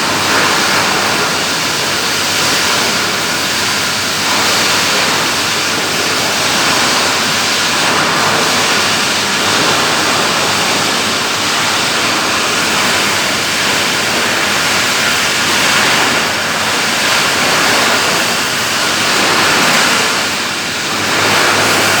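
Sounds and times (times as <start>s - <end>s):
hay baler running: 0.0s - 22.0s.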